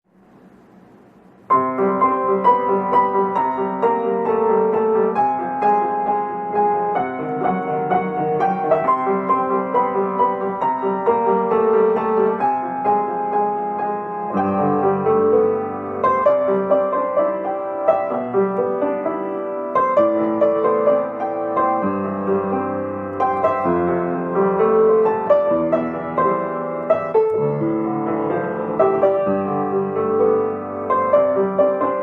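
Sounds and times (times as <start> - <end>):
faint hiss: 0.1 - 32.0
solo piano melody: 0.1 - 32.0.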